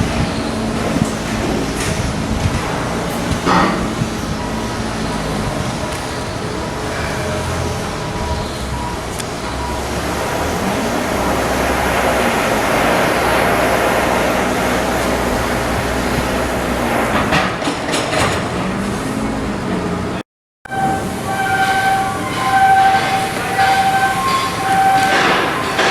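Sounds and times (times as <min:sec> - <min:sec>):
heavy machinery humming: 0:00.0 - 0:25.9.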